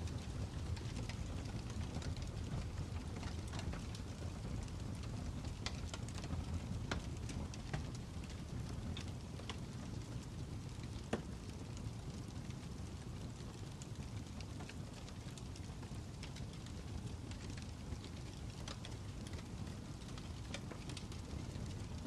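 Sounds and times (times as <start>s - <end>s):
fire crackling: 0.0s - 22.0s
fire pops and snaps: 0.0s - 22.0s.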